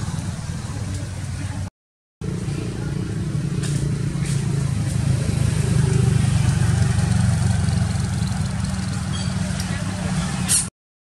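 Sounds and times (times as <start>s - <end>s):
engine running with low rumble: 0.0s - 10.7s.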